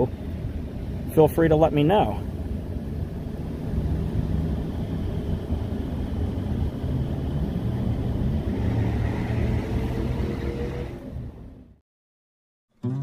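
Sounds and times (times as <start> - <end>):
faint engine hum: 0.0 - 11.8
road noise inside car: 0.0 - 11.8.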